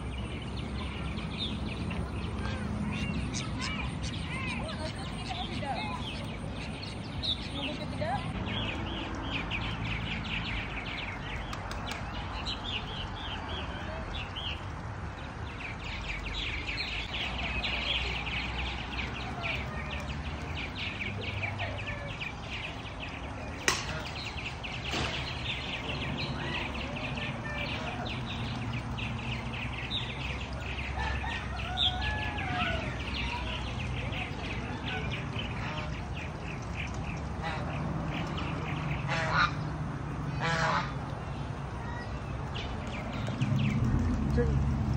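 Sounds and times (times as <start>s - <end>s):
small birds chirping chorus: 0.0s - 44.9s.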